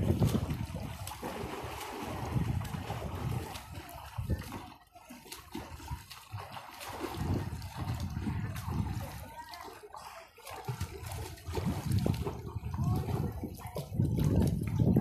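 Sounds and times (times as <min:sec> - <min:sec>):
water lapping against rocks: 0:00.0 - 0:15.0.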